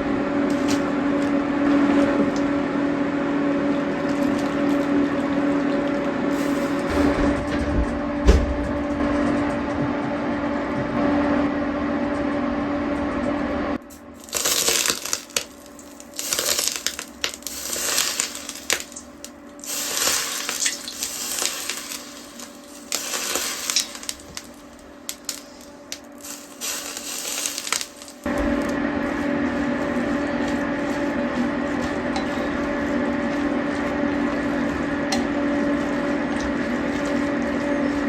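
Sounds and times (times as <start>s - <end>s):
machine hum with held tone: 0.0s - 38.0s.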